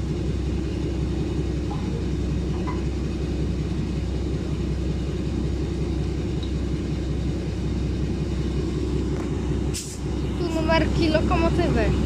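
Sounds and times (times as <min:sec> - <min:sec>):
diesel locomotive engine idling: 0:00.0 - 0:12.0.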